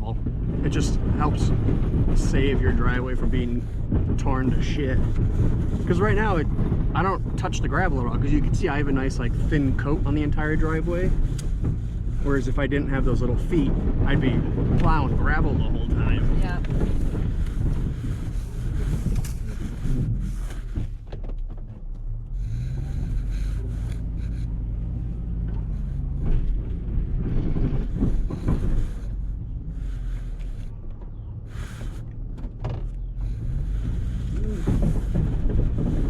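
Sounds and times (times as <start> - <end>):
snow plow scraping: 0.0 - 36.0
truck engine running: 0.0 - 36.0.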